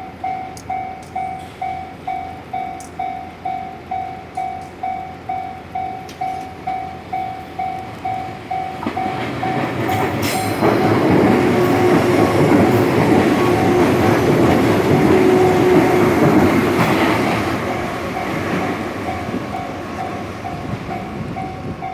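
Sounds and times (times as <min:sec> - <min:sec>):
level crossing warning bell: 0:00.0 - 0:21.9
train wheel and rail noise: 0:00.0 - 0:21.9.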